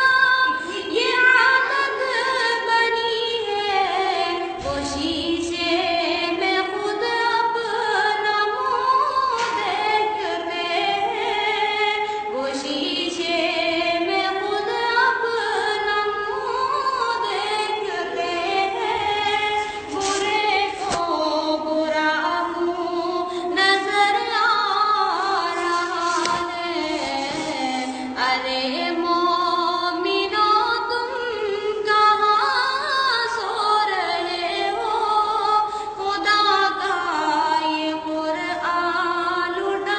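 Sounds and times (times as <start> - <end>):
girl singing unaccompanied: 0.0 - 39.9.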